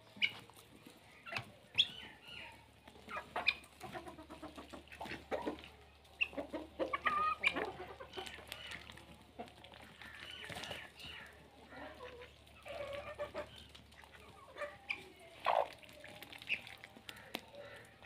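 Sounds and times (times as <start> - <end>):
hens clucking: 0.0 - 18.0.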